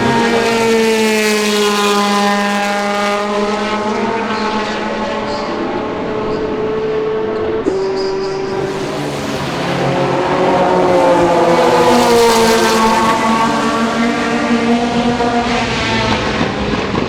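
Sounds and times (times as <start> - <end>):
race car engine passing by: 0.0 - 17.0.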